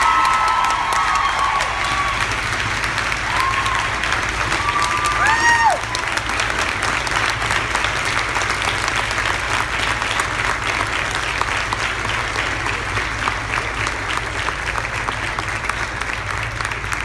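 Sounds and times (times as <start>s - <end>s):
large audience applauding: 0.0s - 17.0s.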